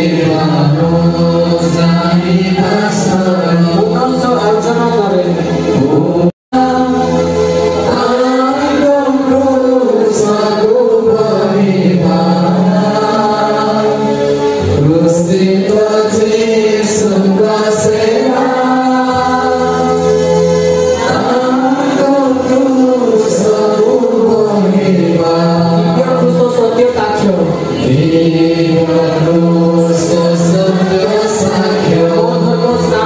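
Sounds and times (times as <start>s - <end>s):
voices singing a hymn: 0.0s - 33.0s.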